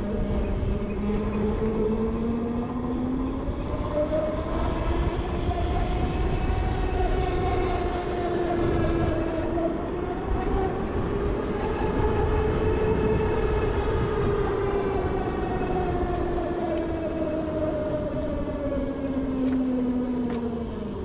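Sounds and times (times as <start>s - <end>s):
electric motorcycle motor whine: 0.0s - 21.0s
wind rumble on microphone: 0.0s - 21.0s.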